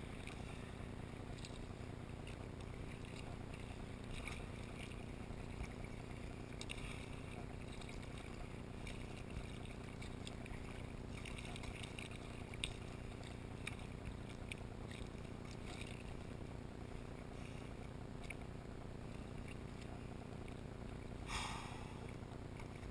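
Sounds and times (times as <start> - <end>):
paddle splashing water: 0.0 - 22.9
steady low rumble: 0.0 - 22.9.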